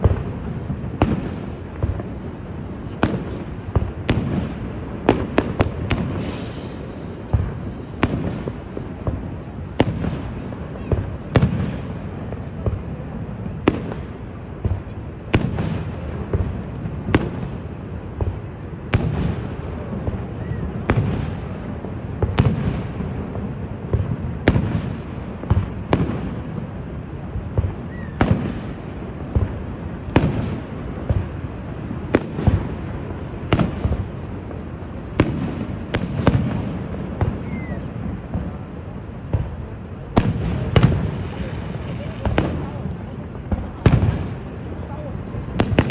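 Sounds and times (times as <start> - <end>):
fireworks banging: 0.0 - 45.9
fireworks crackle: 0.0 - 45.9.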